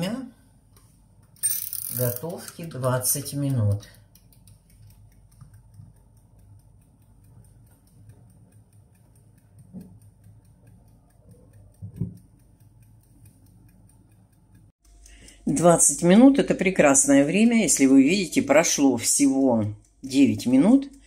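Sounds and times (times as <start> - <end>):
kitchen timer ticking: 1.2 - 21.0.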